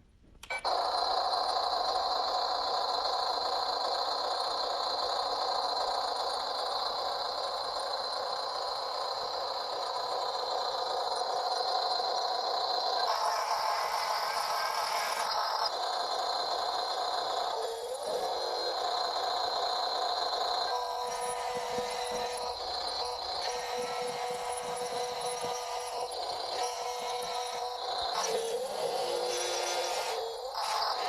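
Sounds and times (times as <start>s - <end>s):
toy excavator motors whining: 0.4s - 31.0s.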